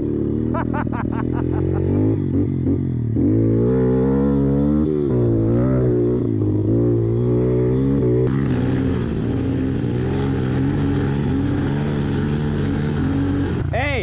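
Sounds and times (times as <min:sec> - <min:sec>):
small motorbike engines revving: 0:00.0 - 0:14.0.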